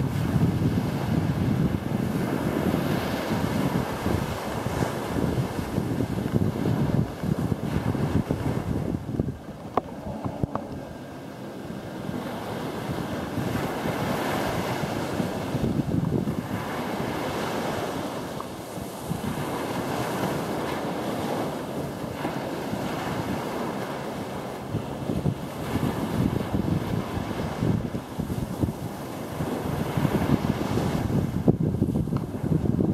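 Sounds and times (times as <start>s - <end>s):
ocean surf on beach: 0.0s - 32.9s
wind buffeting microphone: 0.0s - 32.9s.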